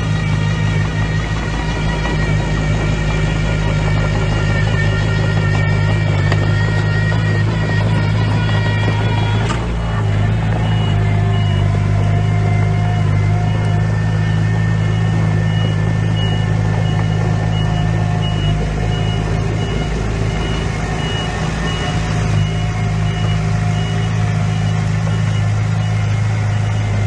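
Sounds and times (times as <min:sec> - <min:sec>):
diesel engine running: 0:00.0 - 0:27.0
reversing alarm beeping: 0:00.0 - 0:27.0.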